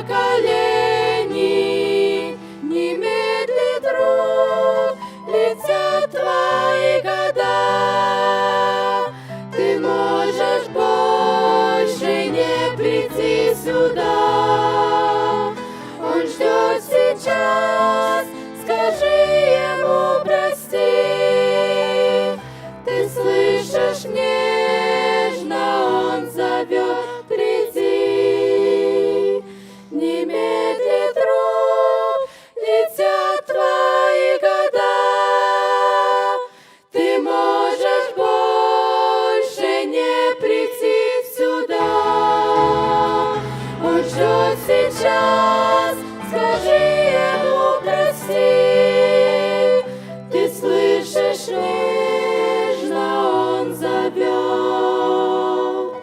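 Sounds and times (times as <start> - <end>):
choir singing slow hymn: 0.0 - 56.0.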